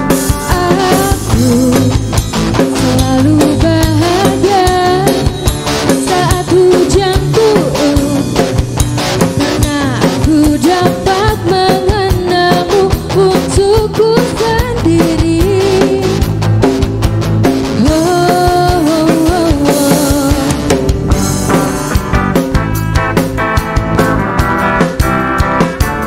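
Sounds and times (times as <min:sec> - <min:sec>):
live pop band playing: 0:00.0 - 0:26.0.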